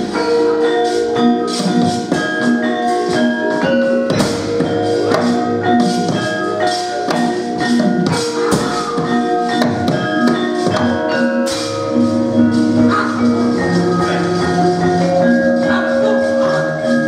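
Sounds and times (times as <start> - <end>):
metallophones ringing: 0.0 - 17.0
sharp percussive strokes: 0.0 - 17.0.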